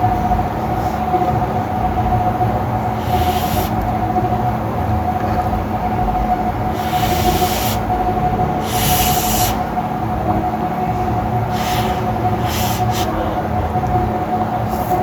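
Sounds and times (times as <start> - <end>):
steady kitchen hum: 0.0 - 15.0.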